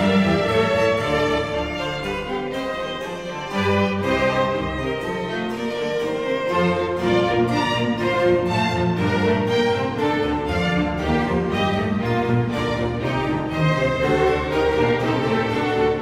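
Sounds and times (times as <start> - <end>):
sustained accompaniment notes: 0.0 - 16.0
violin melody: 0.0 - 16.0.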